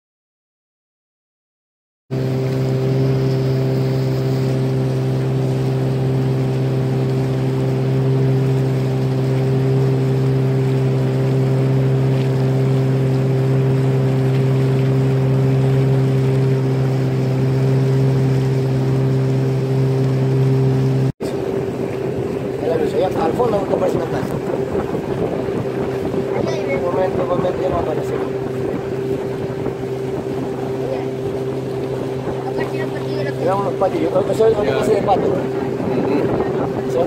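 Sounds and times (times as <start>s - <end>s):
boat motor droning: 2.1s - 37.0s.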